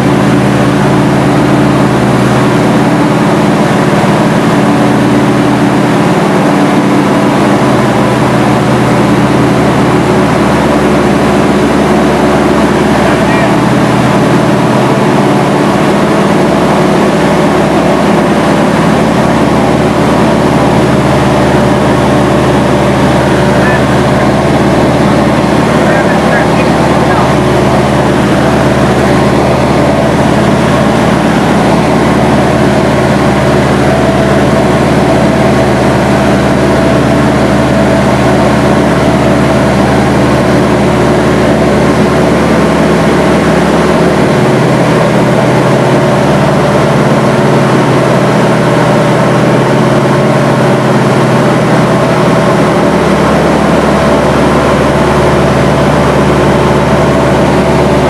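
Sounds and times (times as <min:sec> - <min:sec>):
propeller plane engines droning: 0:00.0 - 0:58.0.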